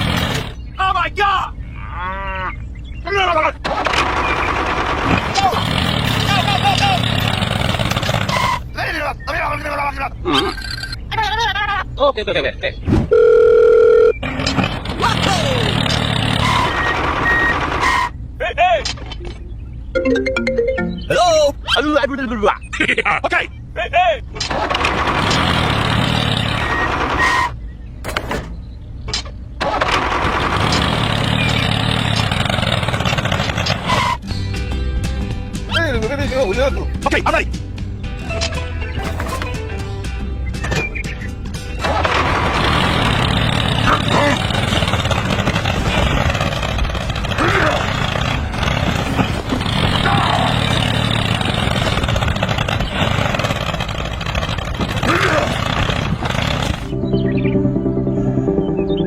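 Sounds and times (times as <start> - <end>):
engine with rattly low drone: 0.0 - 2.0, 2.6 - 12.8, 13.8 - 20.0, 21.1 - 59.0.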